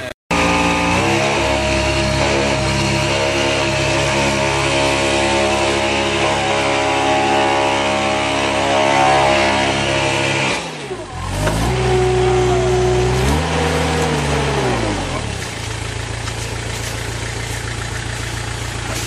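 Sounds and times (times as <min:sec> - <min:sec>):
tractor engine running: 0:00.3 - 0:19.0.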